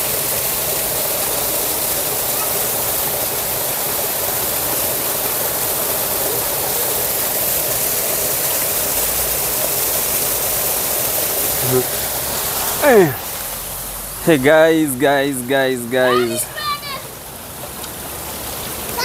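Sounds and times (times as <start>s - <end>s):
small waterfall rushing: 0.0s - 19.0s.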